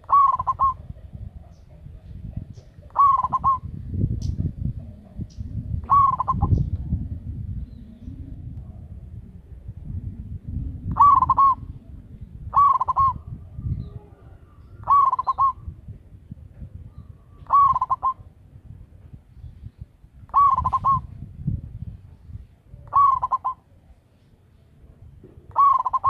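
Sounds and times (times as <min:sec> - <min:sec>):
dove cooing: 0:00.0 - 0:18.6, 0:20.3 - 0:21.8, 0:22.7 - 0:23.9, 0:25.3 - 0:26.0
low rumbling background noise: 0:00.0 - 0:26.0.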